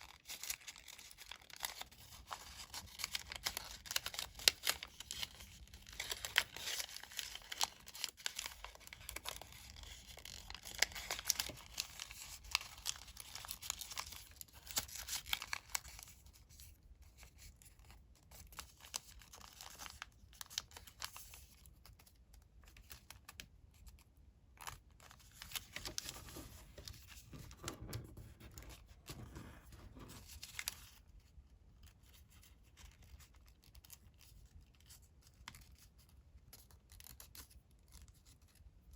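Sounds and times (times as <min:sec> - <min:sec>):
paper folding and crinkling: 0:00.0 - 0:38.9.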